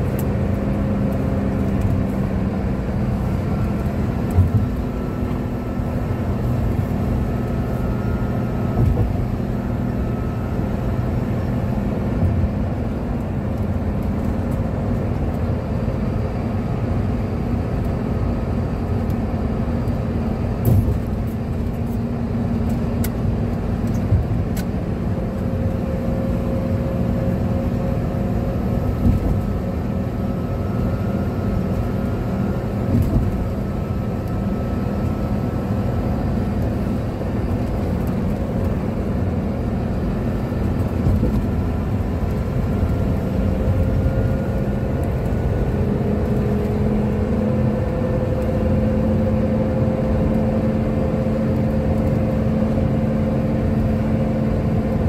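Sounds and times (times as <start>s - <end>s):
engine and tyre drone: 0.0s - 55.0s.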